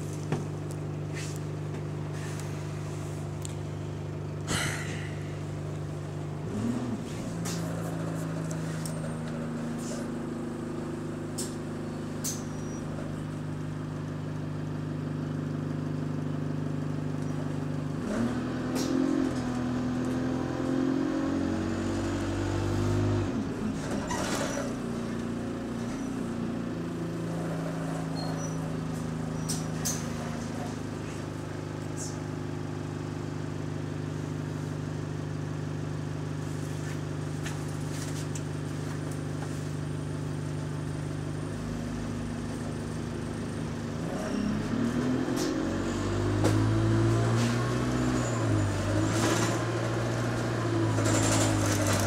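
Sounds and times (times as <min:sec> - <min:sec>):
bus engine: 0:00.0 - 0:52.0.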